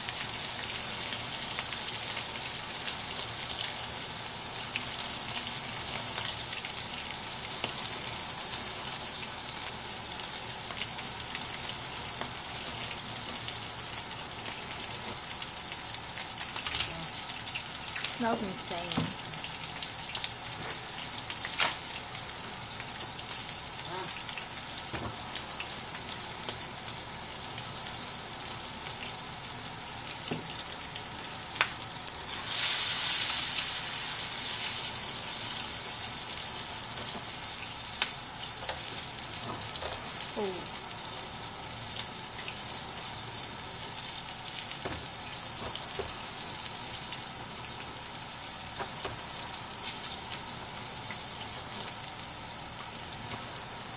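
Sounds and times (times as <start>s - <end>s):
steak sizzling in a skillet: 0.0s - 53.9s.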